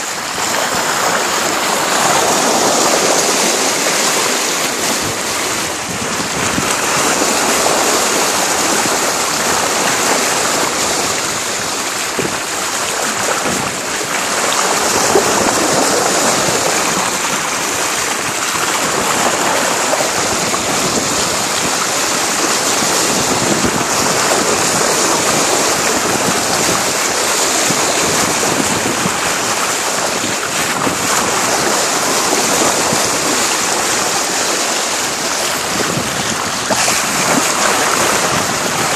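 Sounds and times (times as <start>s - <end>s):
water rushing along a hull: 0.0s - 38.9s.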